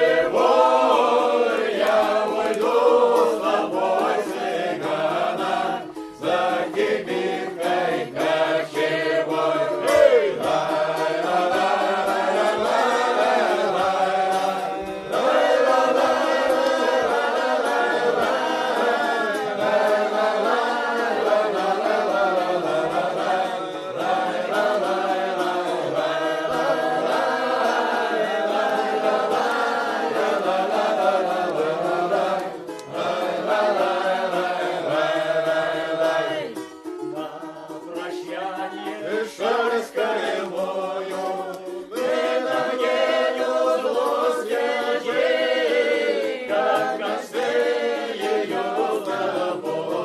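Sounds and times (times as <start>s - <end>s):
wordless choral singing: 0.0s - 50.0s.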